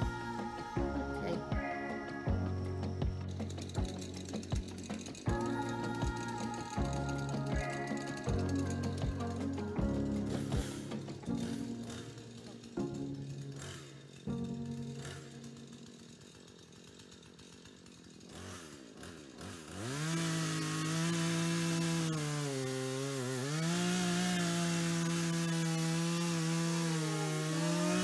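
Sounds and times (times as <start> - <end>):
chainsaw running at high speed: 0.0 - 28.0
chainsaw pull-start: 0.1 - 28.0.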